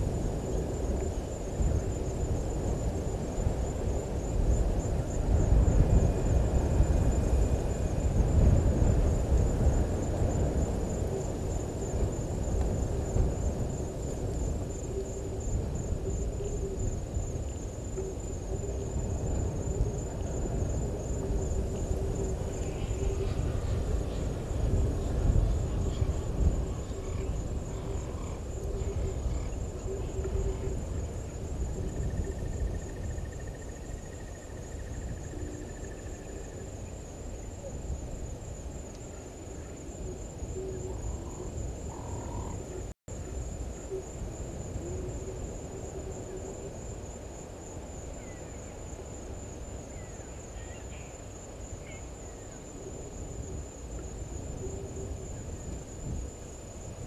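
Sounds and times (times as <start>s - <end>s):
high-pitched insect trill: 0.0s - 57.0s.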